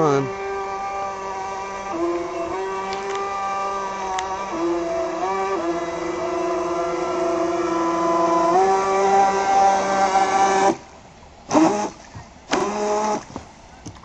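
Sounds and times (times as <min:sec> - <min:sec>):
electric motor whining: 0:00.0 - 0:10.9, 0:11.5 - 0:13.3.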